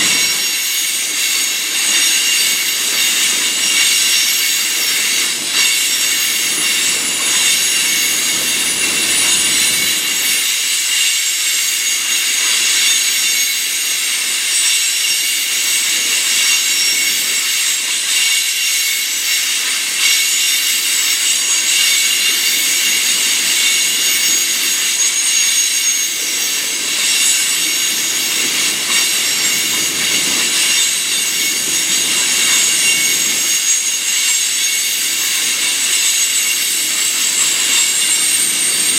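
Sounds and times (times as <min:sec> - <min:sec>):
train wheels rolling: 0:00.0 - 0:38.9
train wheels squealing: 0:00.0 - 0:38.9.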